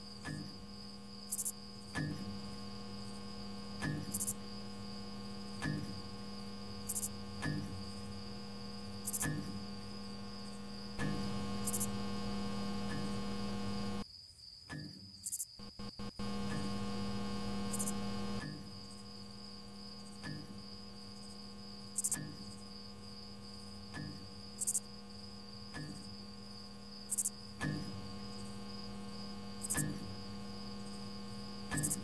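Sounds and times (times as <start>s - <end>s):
streetlamp electric hum: 0.0s - 14.0s, 15.6s - 32.0s
crickets chirping: 0.0s - 32.0s.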